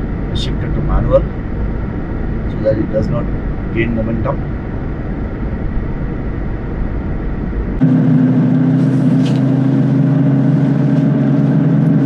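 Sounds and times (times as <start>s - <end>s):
car engine drone: 0.0s - 12.0s
road noise inside car: 0.0s - 12.0s.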